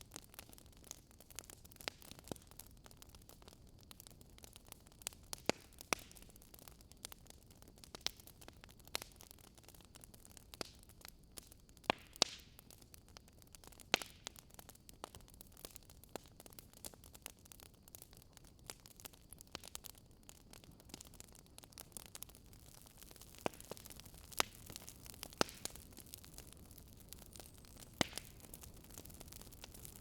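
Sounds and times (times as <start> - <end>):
faint steady hiss: 0.0 - 30.0
wood fire crackling: 0.0 - 30.0.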